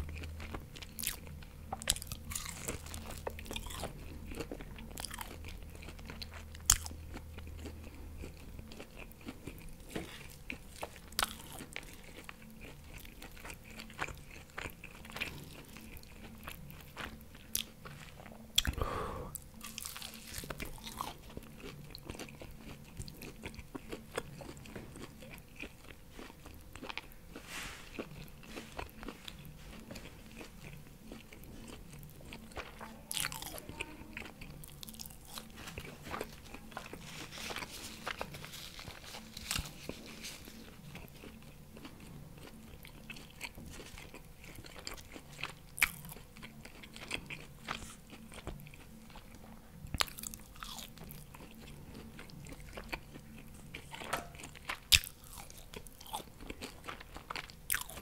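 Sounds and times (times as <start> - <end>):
chewing with wet mouth smacks: 0.0 - 58.0.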